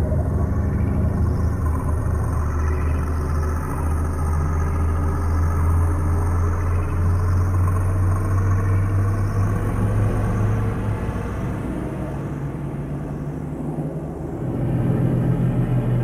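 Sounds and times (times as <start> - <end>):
deep synth drone: 0.0 - 16.0.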